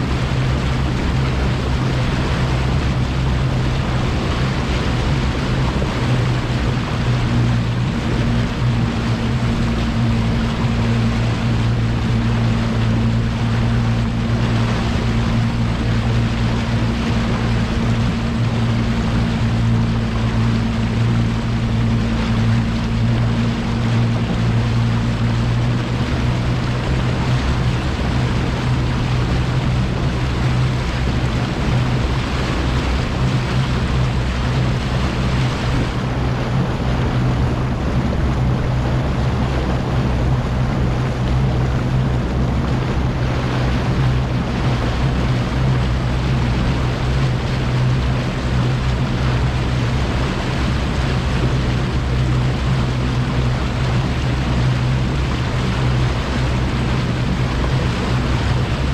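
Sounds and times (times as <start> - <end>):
outboard motor humming: 0.0 - 58.9
wind and water rushing: 0.0 - 58.9.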